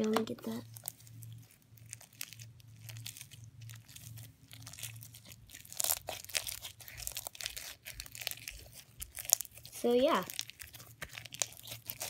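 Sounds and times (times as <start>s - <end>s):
slime crackling and popping: 0.0s - 12.0s.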